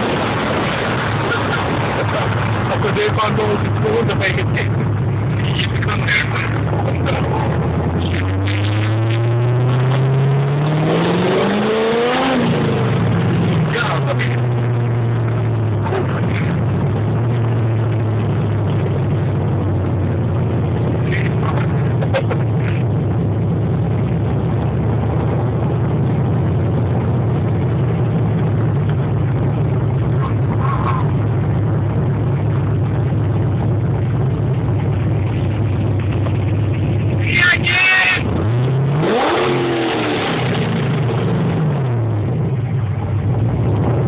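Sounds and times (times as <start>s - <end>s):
car engine droning in cabin: 0.0s - 44.0s.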